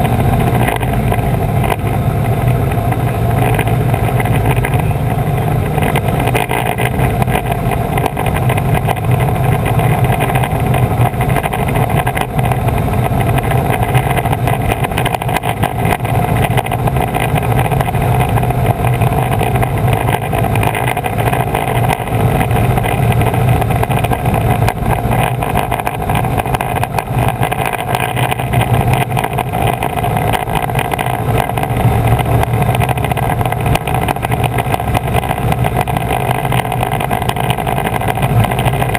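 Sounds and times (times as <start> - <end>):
propeller engine droning: 0.0 - 38.9.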